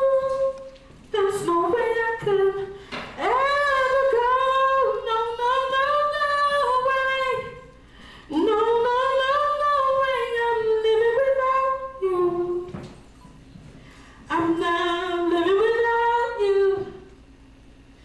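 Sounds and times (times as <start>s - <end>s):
woman singing a cappella: 0.0s - 12.8s, 14.3s - 17.2s.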